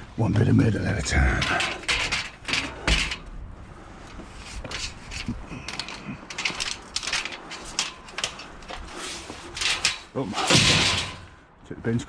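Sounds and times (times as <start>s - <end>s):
scrap metal clattering: 1.1s - 3.4s, 4.0s - 11.5s.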